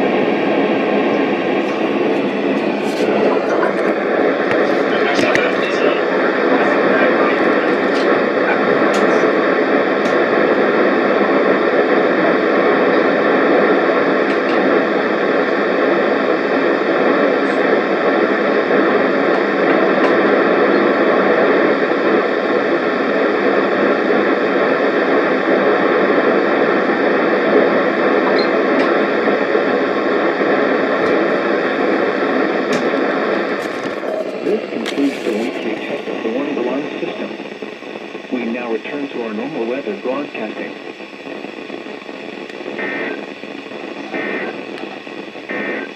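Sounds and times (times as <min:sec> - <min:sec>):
weather radio static hiss: 0:00.0 - 0:45.9.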